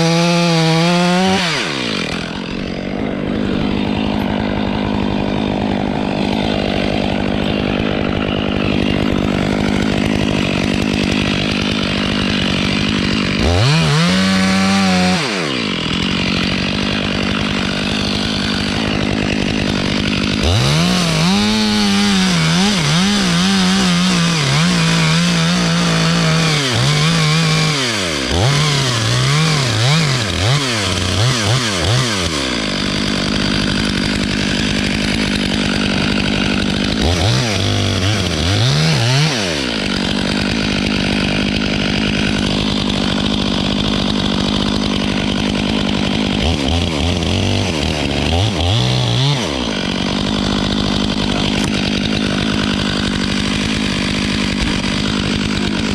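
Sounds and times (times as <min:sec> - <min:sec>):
chainsaw idling and revving: 0:00.0 - 0:55.9.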